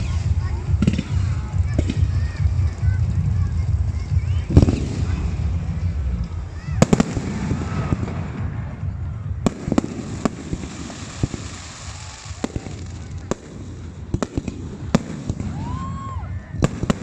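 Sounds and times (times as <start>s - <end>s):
fireworks bangs and cracks: 0.0s - 17.0s
fireworks whistling: 0.0s - 17.0s
low rumble: 0.0s - 17.0s.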